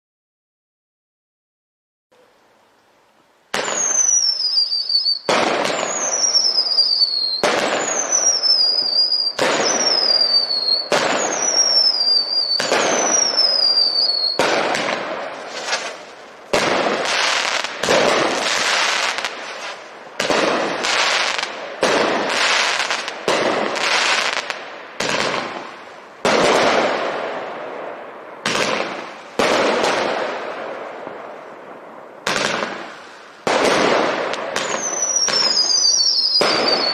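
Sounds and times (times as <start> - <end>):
firework shots bursting: 3.5 - 31.0, 32.2 - 36.9
whistling firework shots: 3.5 - 31.4, 32.2 - 36.9.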